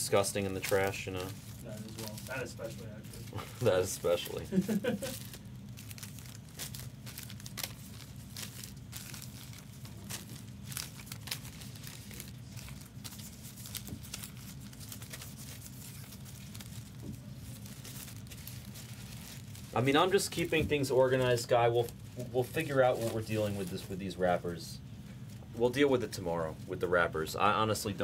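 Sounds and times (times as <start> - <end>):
foil wrappers crinkling: 0.0 - 28.0.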